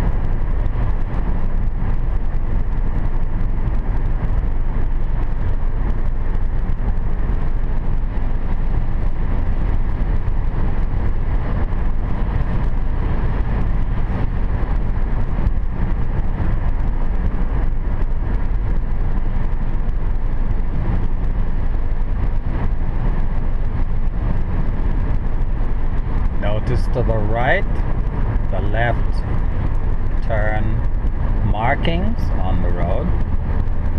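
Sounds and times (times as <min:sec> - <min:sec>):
car cabin road and engine noise: 0:00.0 - 0:33.9.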